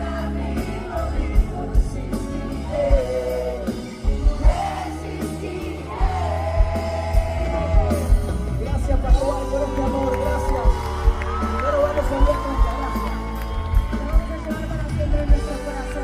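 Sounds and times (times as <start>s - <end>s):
pop-rock band playing live: 0.0s - 16.0s.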